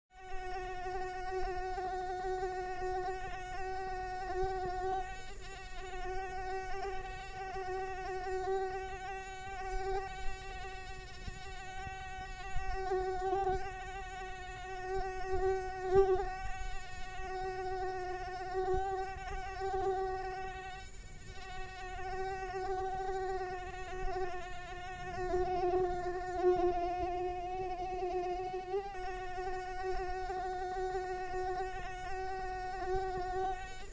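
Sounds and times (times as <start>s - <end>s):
mosquito buzzing: 0.1s - 33.9s.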